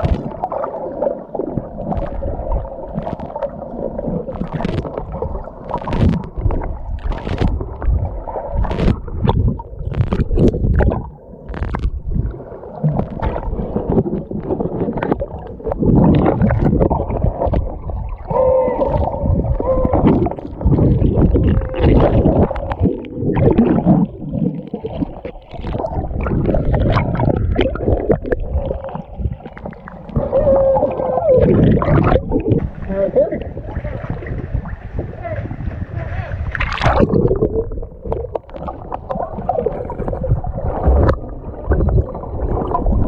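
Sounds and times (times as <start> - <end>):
water sloshing underwater: 0.0 - 43.0.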